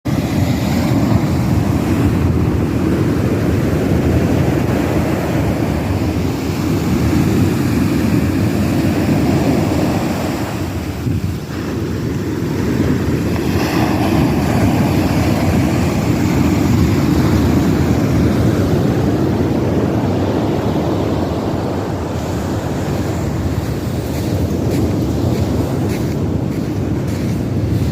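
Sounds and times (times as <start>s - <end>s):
ocean surf washing ashore: 0.1s - 27.9s
wind rumbling on microphone: 0.1s - 27.9s.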